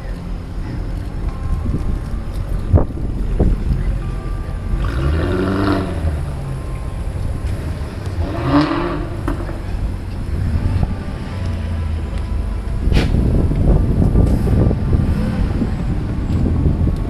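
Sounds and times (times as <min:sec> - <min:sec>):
car engine rumbling and revving: 0:00.0 - 0:17.0.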